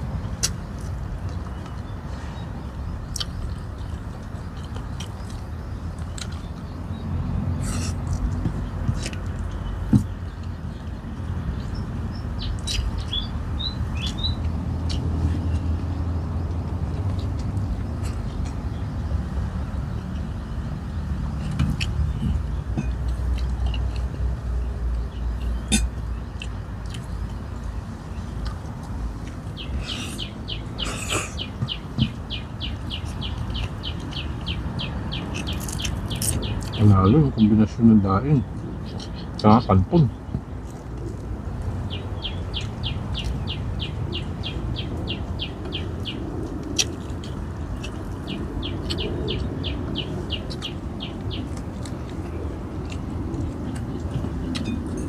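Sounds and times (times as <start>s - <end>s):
small birds chirping: 0.1s - 55.0s.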